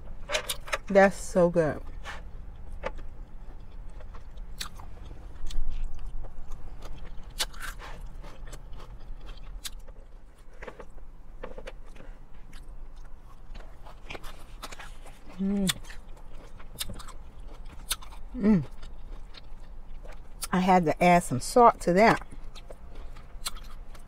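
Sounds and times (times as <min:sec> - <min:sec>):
chewing and crunching coleslaw: 0:01.8 - 0:20.8, 0:21.4 - 0:24.0.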